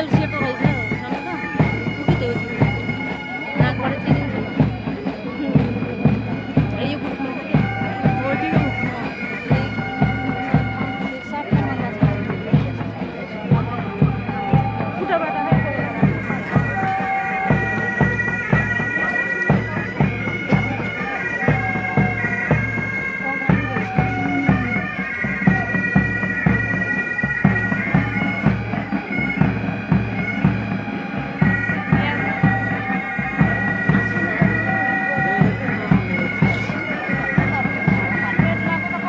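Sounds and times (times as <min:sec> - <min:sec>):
bagpipes playing melody: 0:00.0 - 0:39.0
drums beating: 0:00.0 - 0:39.0.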